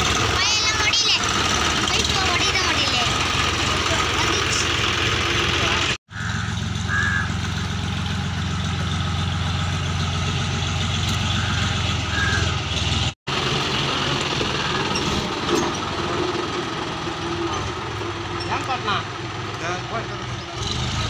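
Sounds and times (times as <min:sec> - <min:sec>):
diesel tractor engines running: 0:00.0 - 0:21.0.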